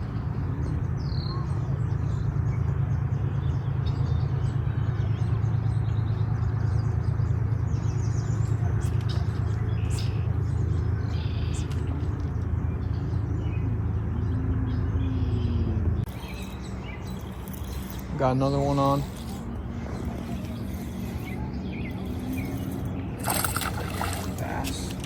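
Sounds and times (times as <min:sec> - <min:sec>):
birds chirping: 0:00.0 - 0:25.0
steady low rumble: 0:00.0 - 0:25.0.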